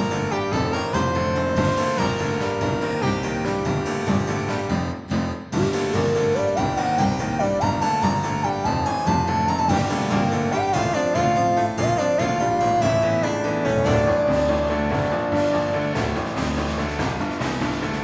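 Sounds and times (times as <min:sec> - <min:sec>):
beat and bass: 0:00.0 - 0:18.0
keyboard lead melody: 0:00.0 - 0:18.0.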